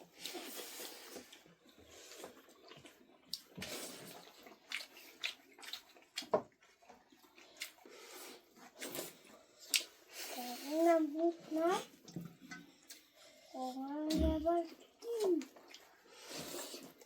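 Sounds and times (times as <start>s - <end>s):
water splashing and sloshing: 0.0s - 10.1s, 10.9s - 17.0s.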